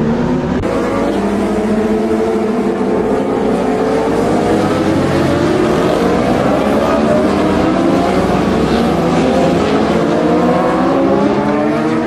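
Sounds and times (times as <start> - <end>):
racing engines running hard: 0.0 - 12.0.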